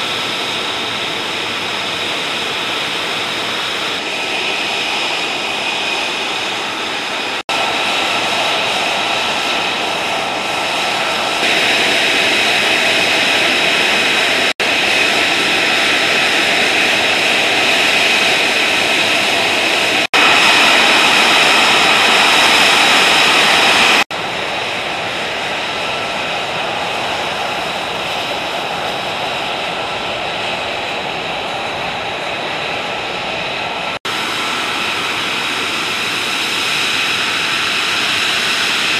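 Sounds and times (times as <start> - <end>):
jet engine idling with high whine: 0.0 - 38.9.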